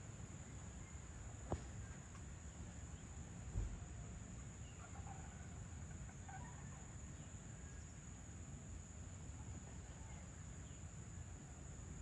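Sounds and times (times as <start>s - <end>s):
faint insect chirps: 0.0s - 12.0s.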